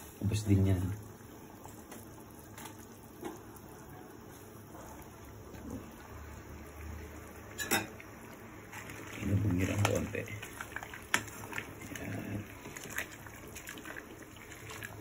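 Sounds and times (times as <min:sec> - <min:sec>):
broth bubbling faintly: 0:00.0 - 0:15.0.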